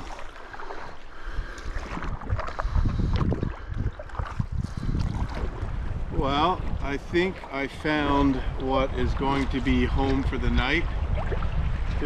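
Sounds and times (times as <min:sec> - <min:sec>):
water sloshing around canoe: 0:00.0 - 0:12.0
wind rumbling on microphone: 0:00.0 - 0:12.0.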